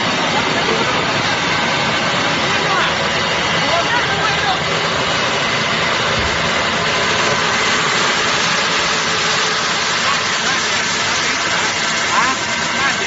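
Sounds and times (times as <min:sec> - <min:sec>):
coconut grating machine grinding: 0:00.0 - 0:13.0.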